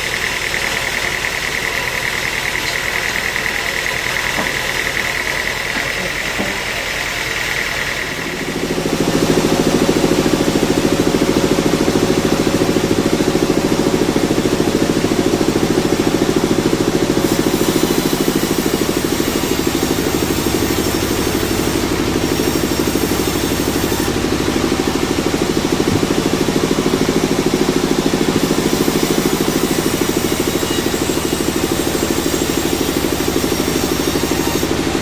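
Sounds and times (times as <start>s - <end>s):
sawmill engine running: 0.0s - 35.0s.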